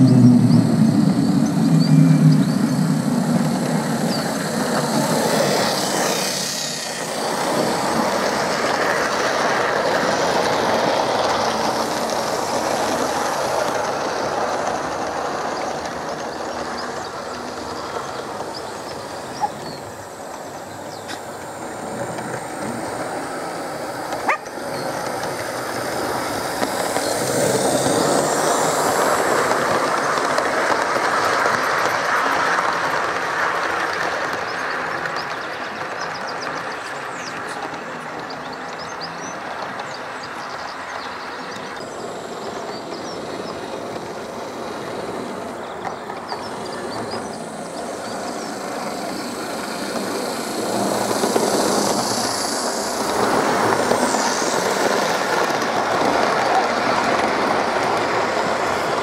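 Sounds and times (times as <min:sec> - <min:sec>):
model train wheels rumbling: 0:00.0 - 0:59.0.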